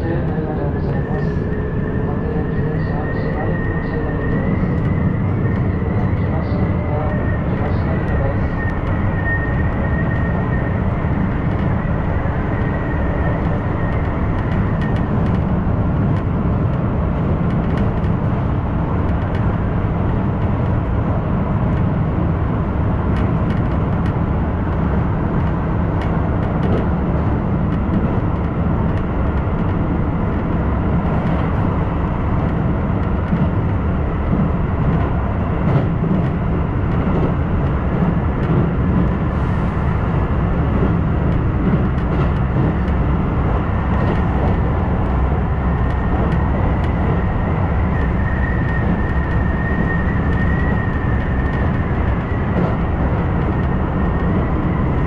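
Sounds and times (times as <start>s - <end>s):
wheels rumbling on rails: 0.0s - 55.0s.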